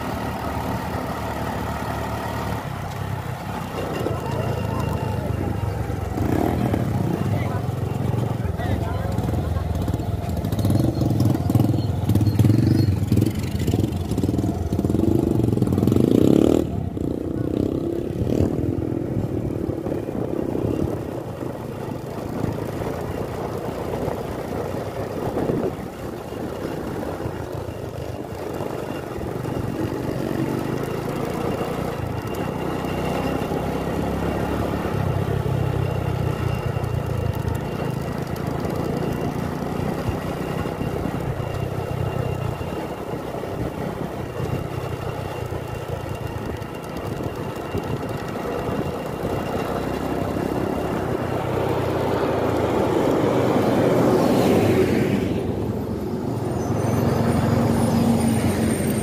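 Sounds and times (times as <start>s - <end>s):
motorcycle passing: 0.0s - 59.0s
vehicle engine and road noise: 0.0s - 59.0s.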